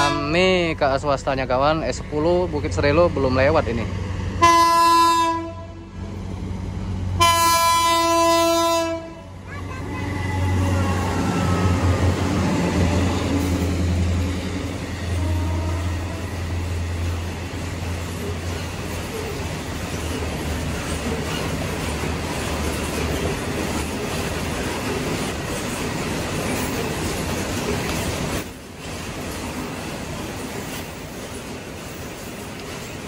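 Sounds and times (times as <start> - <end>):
diesel locomotive engine drone: 0.0 - 33.0
train wheels rumbling on rails: 0.0 - 33.0.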